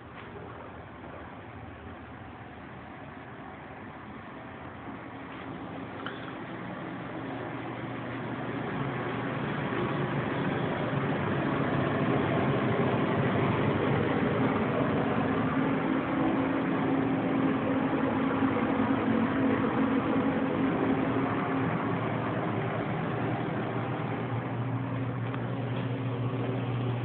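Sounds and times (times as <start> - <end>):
mechanical drone with low hum: 0.0 - 27.0.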